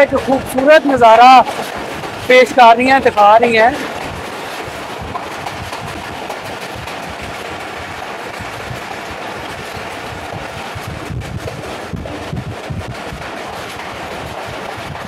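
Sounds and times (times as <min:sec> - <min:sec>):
train wheels rumbling and rattling: 0:00.0 - 0:15.0.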